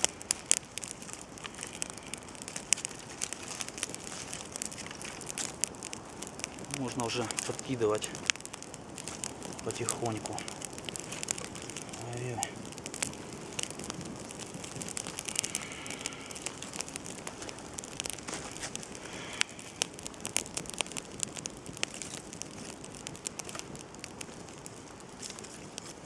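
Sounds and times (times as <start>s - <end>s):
campfire crackling and popping: 0.0s - 26.0s
fire hiss: 0.0s - 26.0s.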